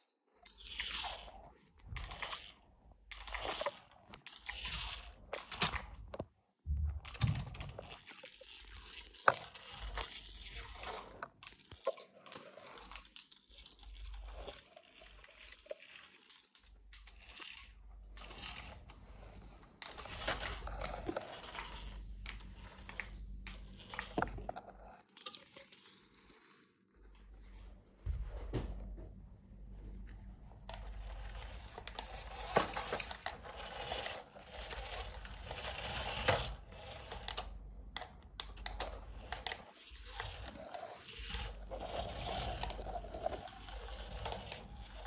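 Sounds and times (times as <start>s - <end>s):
plastic toy trucks clicking and scraping: 0.4s - 6.3s, 7.0s - 27.4s, 30.6s - 45.0s.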